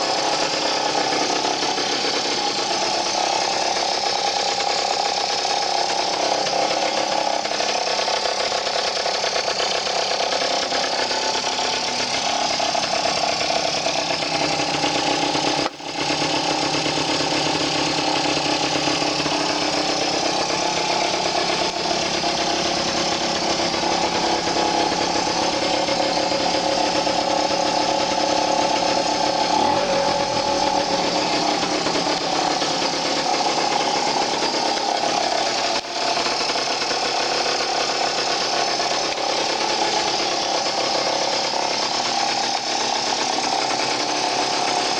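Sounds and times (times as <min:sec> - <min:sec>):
scooter engine running: 0:00.0 - 0:44.9.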